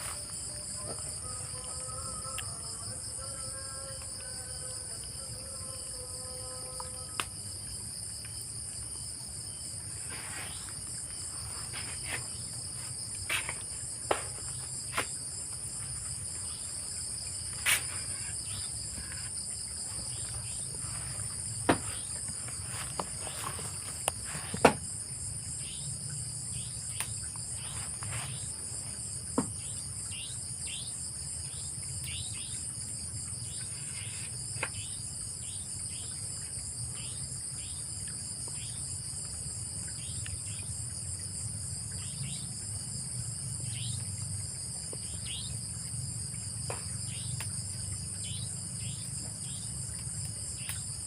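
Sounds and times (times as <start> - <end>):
crickets trilling: 0.0 - 51.0.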